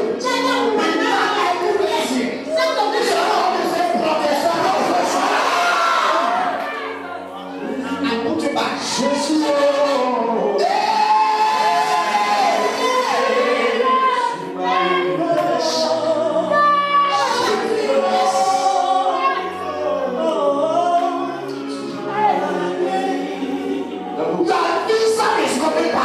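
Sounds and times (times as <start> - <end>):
gospel choir singing: 0.0 - 26.0.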